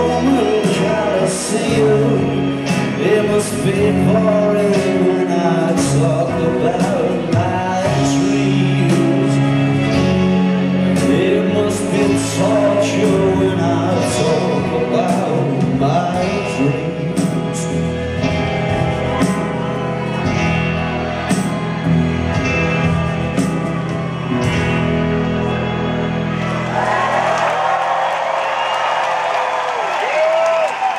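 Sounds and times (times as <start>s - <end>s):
live rock band playing: 0.0s - 28.7s.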